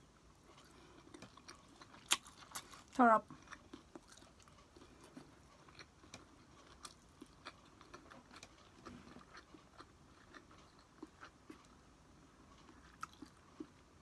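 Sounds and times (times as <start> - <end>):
person chewing food: 0.4 - 14.0.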